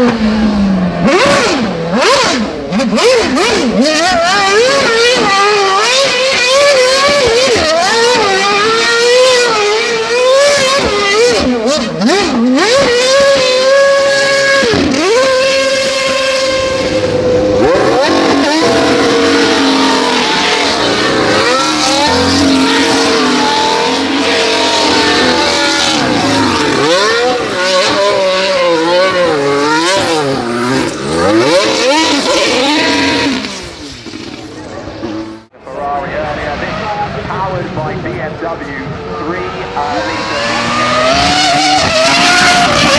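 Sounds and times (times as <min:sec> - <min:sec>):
performance car engine revving: 0:00.0 - 0:42.9.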